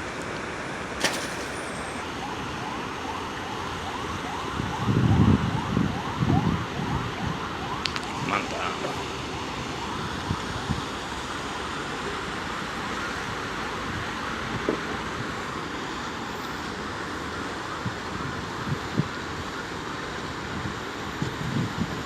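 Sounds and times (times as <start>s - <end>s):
steady outdoor background noise: 0.0s - 22.0s.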